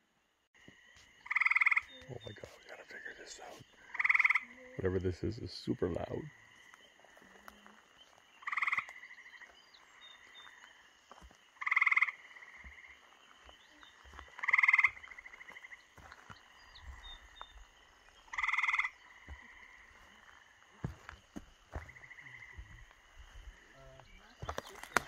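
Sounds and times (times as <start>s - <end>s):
frog trilling: 1.2s - 10.9s, 11.5s - 21.0s, 21.7s - 25.0s.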